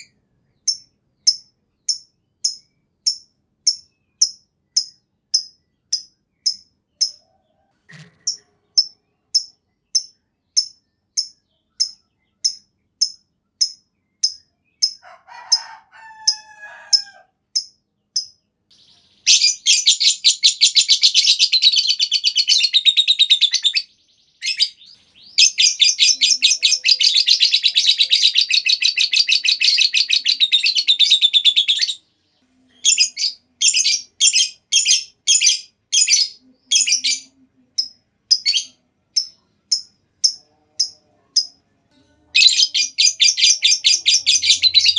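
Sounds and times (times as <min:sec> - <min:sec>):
bird chirping and trilling: 0:00.0 - 0:32.0, 0:32.7 - 0:44.9.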